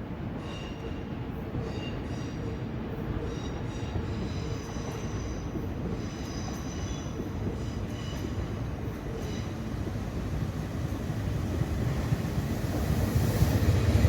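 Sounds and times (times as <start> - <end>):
train wheels rumbling on rails: 0.1 - 14.0.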